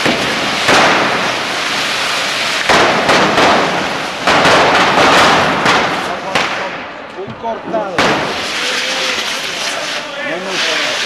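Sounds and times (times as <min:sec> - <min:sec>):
firework rockets hissing: 0:00.0 - 0:06.8, 0:08.0 - 0:11.0
sharp cracks: 0:00.0 - 0:07.2, 0:08.0 - 0:10.1.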